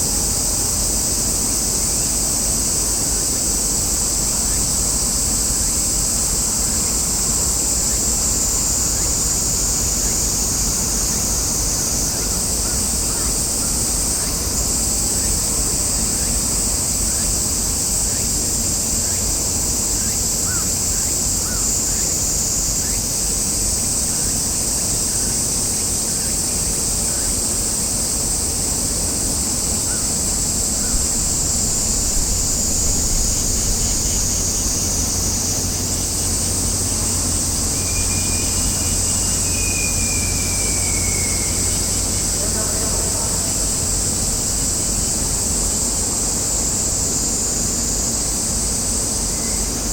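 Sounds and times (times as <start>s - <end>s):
high-pitched hissing drone: 0.0s - 49.9s.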